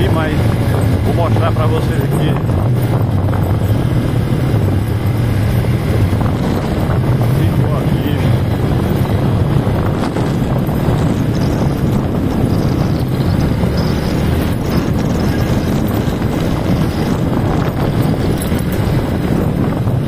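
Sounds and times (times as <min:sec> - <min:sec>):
motorcycle engine: 0:00.0 - 0:20.0
tyres rattling over cobblestones: 0:00.0 - 0:20.0.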